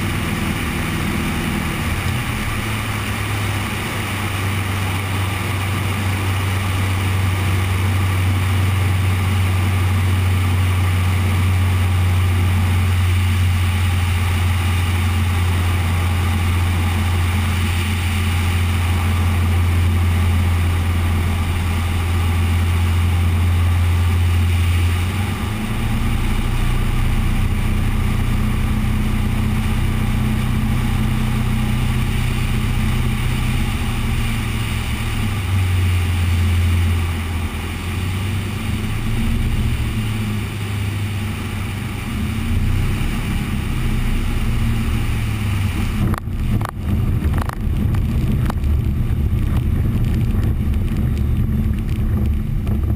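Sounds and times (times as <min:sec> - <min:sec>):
airflow rushing: 0:00.0 - 0:52.9
light aircraft engine droning: 0:00.0 - 0:52.9.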